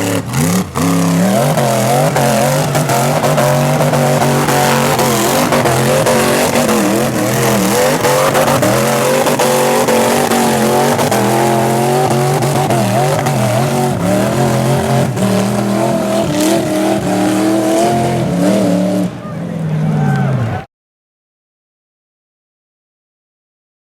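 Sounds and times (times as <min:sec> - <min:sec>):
engine on rev limiter: 0:00.0 - 0:20.7.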